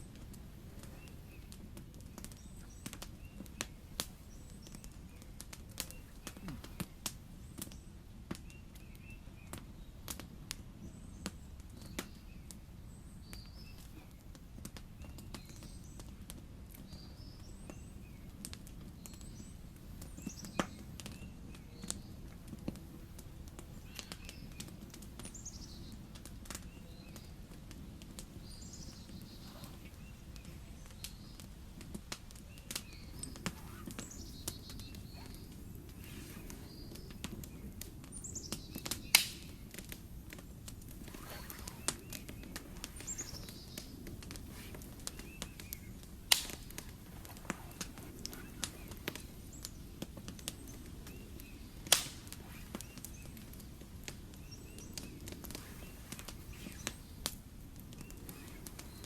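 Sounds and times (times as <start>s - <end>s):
low background hiss: 0.0s - 59.0s
small birds chirping: 0.0s - 59.0s.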